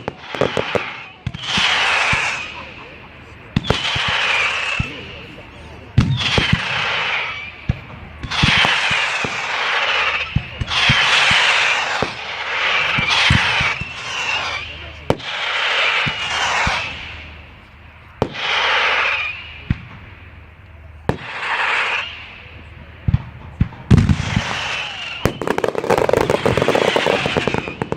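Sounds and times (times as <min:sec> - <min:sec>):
fireworks bangs: 0:00.0 - 0:27.9
fireworks hissing: 0:00.0 - 0:27.9.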